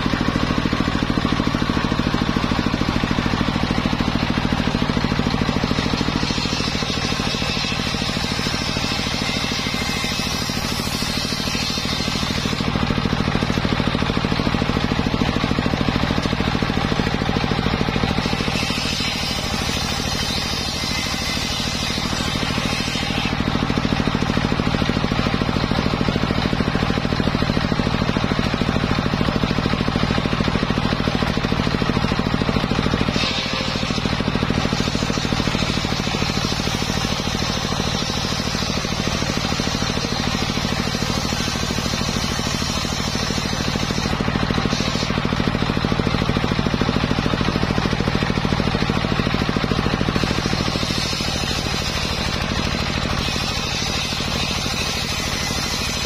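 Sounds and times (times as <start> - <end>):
circular saw cutting wood: 0.0 - 56.0.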